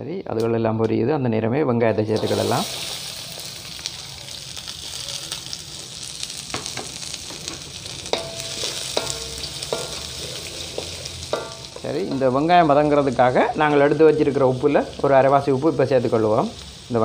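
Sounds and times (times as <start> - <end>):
onions sizzling in oil: 2.1 - 17.0.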